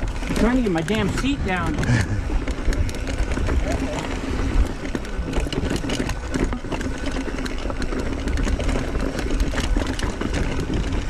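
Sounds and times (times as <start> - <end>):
bicycle freehub ratcheting: 0.0 - 11.0
bike rattling over rocks: 0.0 - 11.0
wind rumble on microphone: 0.0 - 11.0.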